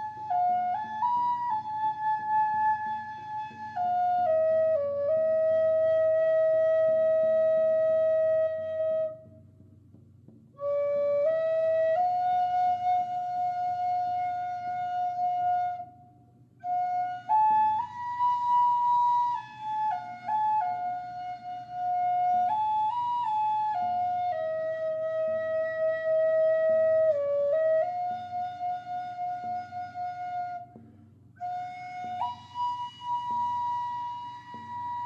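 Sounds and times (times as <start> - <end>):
flute playing slow melody: 0.0 - 9.3, 10.6 - 30.8, 31.4 - 35.0.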